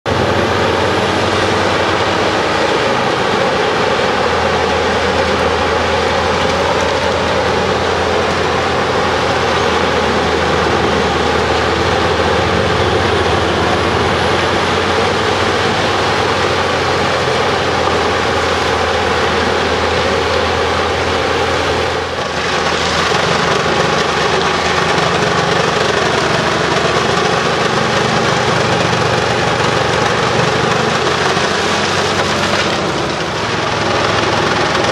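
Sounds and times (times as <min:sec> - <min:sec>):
wood chipper running: 0:00.1 - 0:34.9.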